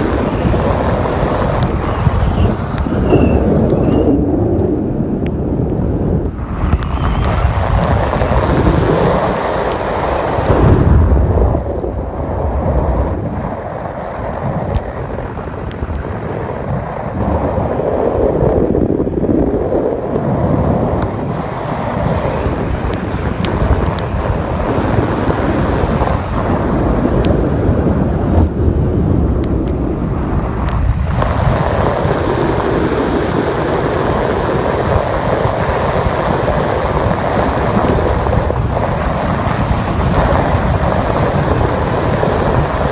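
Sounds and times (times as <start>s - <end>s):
tyre noise on wet road: 0.0s - 42.9s
wind buffeting microphone: 0.0s - 42.9s.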